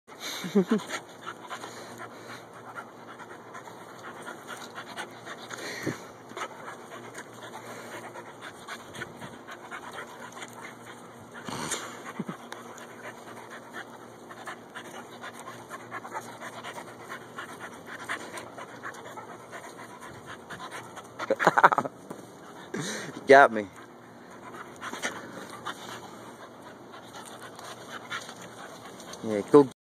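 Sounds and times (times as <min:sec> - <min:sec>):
puppy panting: 0:00.1 - 0:29.8
small ticks and rustles: 0:00.8 - 0:22.7, 0:23.6 - 0:29.7.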